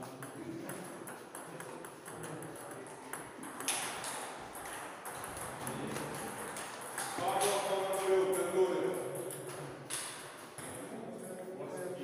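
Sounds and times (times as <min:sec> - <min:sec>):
table tennis ball hitting table and bats: 0:00.0 - 0:11.1.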